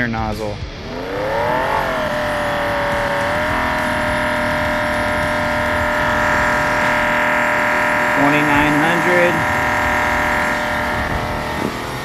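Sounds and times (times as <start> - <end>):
pressure pump motor whining: 0.6 - 12.0.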